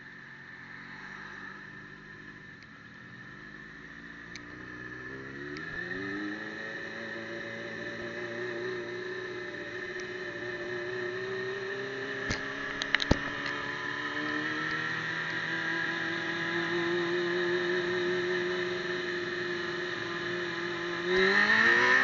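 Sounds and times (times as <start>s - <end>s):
motorcycle engine accelerating: 1.5s - 22.0s.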